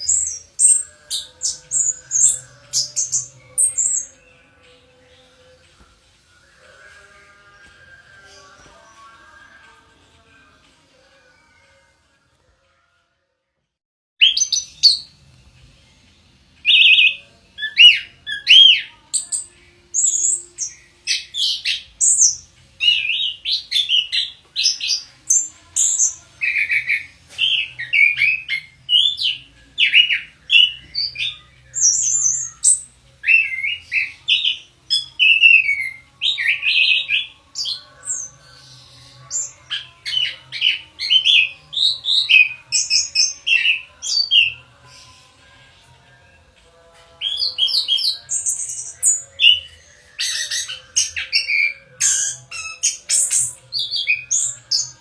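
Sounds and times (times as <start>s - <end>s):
thrush singing: 0.0s - 13.1s, 14.2s - 55.0s.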